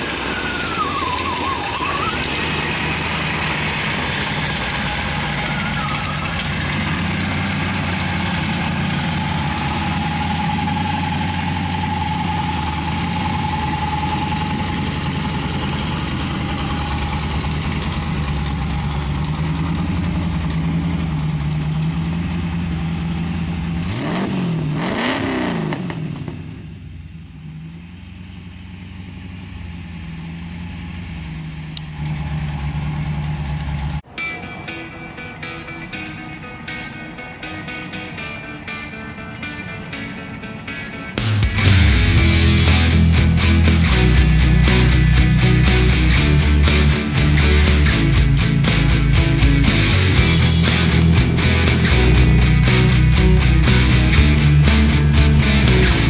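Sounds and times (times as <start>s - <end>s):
car engine idling and revving: 0.0s - 34.1s, 41.2s - 56.0s.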